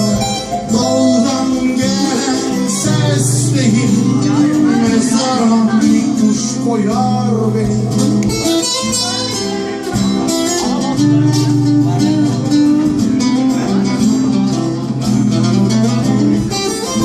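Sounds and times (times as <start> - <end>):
acoustic guitar strummed and plucked: 0.0 - 17.0.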